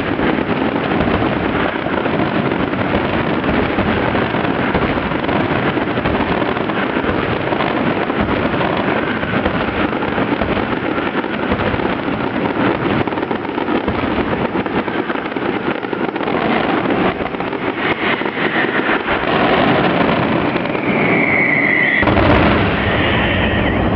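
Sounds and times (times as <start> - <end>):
firework whistling: 0.0 - 23.9
fireworks crackling barrage: 0.0 - 23.9.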